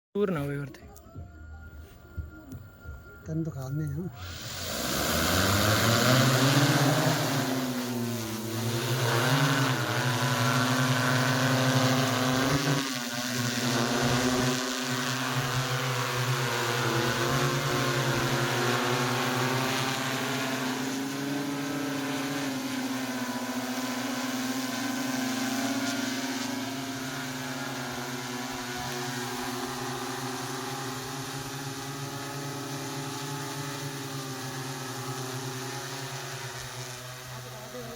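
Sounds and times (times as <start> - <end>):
drone propellers whirring: 3.7 - 37.9.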